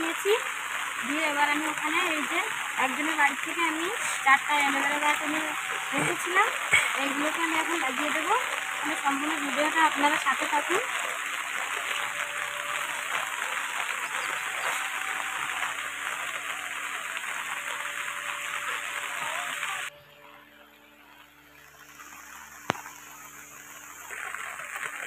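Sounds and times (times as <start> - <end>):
steady rain falling: 0.0 - 19.9, 20.6 - 25.0.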